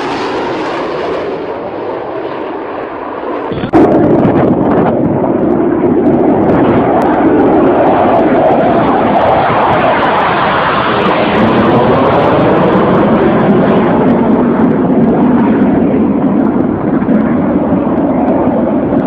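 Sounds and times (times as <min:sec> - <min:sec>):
fighter jet engine: 0:00.0 - 0:19.0.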